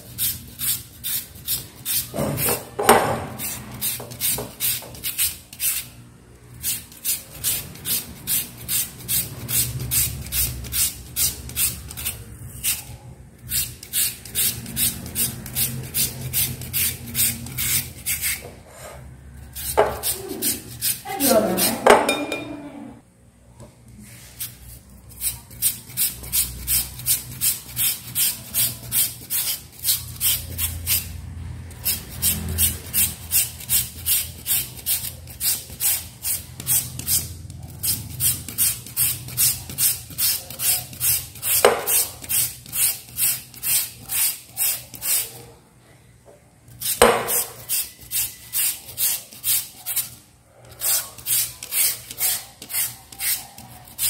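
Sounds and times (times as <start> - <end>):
potato rasping on a grater: 0.0 - 2.5, 3.4 - 18.4, 19.4 - 21.8, 24.2 - 45.4, 46.8 - 54.0.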